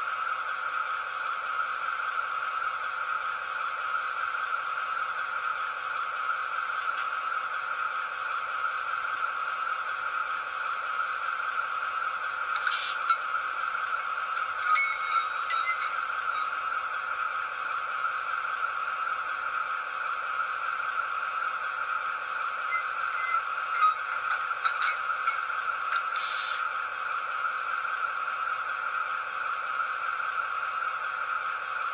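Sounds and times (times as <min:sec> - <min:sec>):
diesel engine through small loudspeaker: 0:00.0 - 0:31.9.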